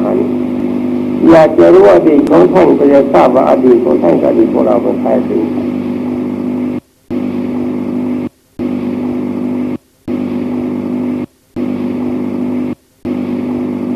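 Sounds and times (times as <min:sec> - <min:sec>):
buzzing hum with hiss: 0:00.0 - 0:13.9.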